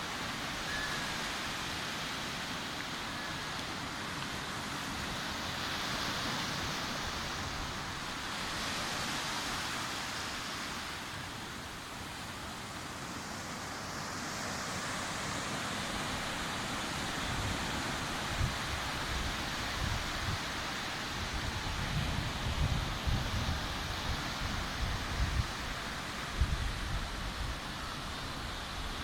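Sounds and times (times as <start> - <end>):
sea surf washing onto beach: 0.0 - 29.0.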